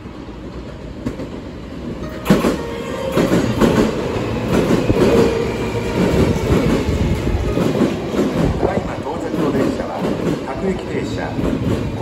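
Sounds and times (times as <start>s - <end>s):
train wheels clacking over rail joints: 2.1s - 12.0s.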